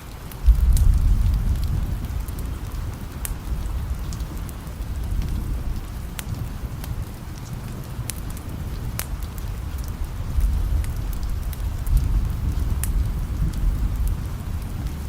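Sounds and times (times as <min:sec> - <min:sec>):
steady rain: 0:00.0 - 0:15.0
wood fire crackling: 0:00.0 - 0:15.0
thunder rumble: 0:00.4 - 0:15.0.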